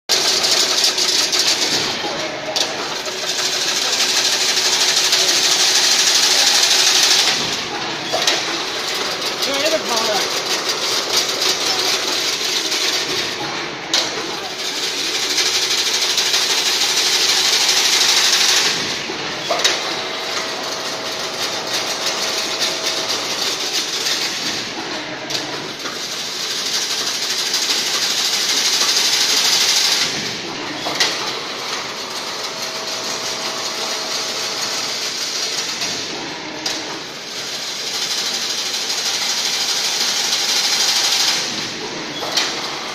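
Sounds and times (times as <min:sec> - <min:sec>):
sharp machine clacks: 0:00.1 - 0:42.9.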